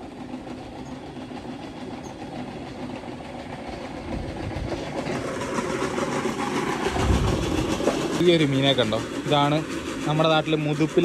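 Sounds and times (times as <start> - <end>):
water pump motor rumbling: 0.0 - 11.0.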